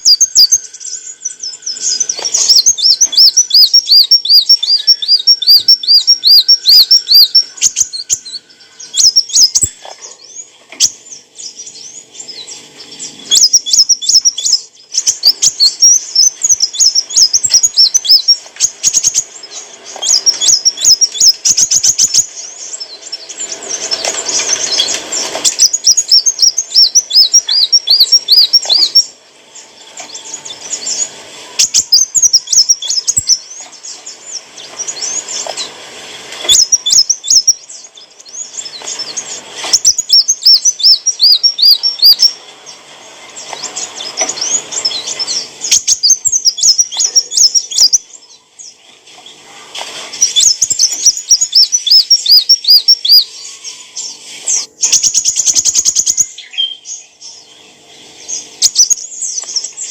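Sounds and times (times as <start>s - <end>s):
bird chirping and trilling: 0.0s - 49.5s, 50.1s - 59.9s.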